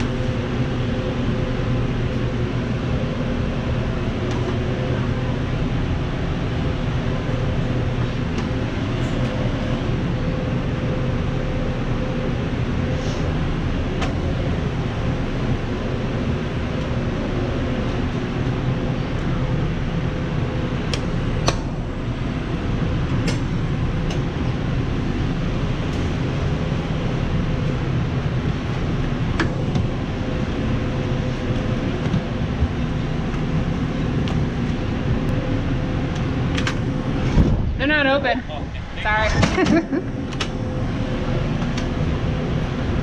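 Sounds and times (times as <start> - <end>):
mechanical hum and rumble: 0.0 - 43.0.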